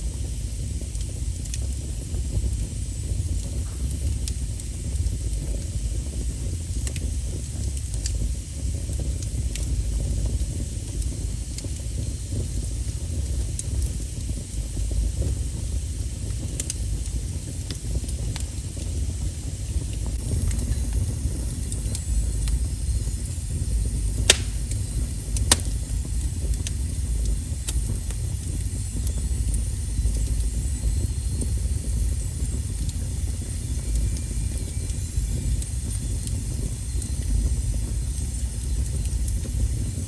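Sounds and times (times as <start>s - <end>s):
wood fire crackling: 0.0s - 40.0s
sharp pops of fire: 0.1s - 40.0s.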